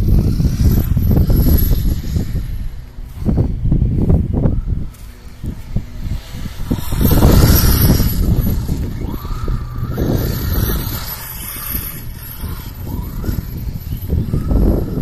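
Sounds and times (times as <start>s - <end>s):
remote control car motor whining: 0.0s - 15.0s.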